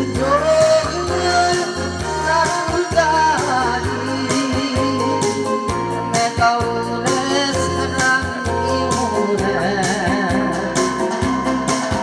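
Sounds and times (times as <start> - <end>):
keyboard and organ backing track: 0.0 - 12.0
man singing into a microphone: 0.0 - 12.0.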